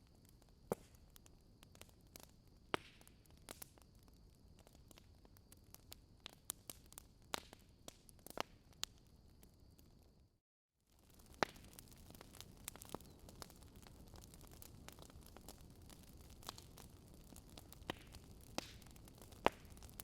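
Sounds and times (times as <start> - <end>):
campfire crackling and popping: 0.0 - 10.2, 10.9 - 20.0.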